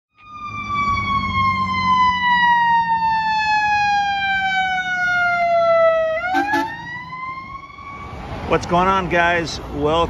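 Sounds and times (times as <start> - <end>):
siren wailing: 0.1 - 8.4
low rumble of passing traffic: 0.2 - 10.0.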